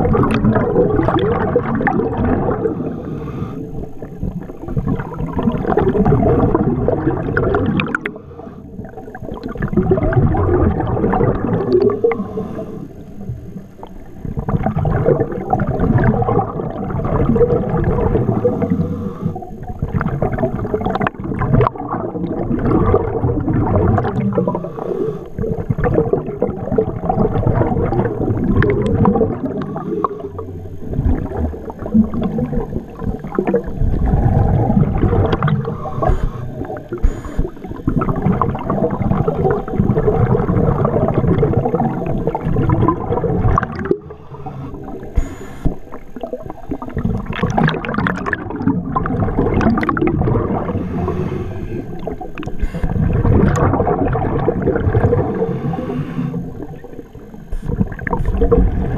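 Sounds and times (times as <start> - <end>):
diver exhaling bubbles underwater: 0.0 - 58.9.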